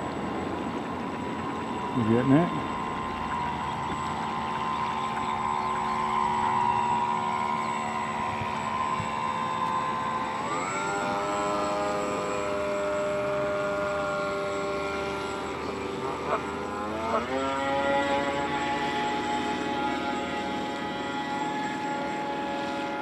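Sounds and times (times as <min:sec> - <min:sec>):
model boat motor whining: 0:00.0 - 0:23.0.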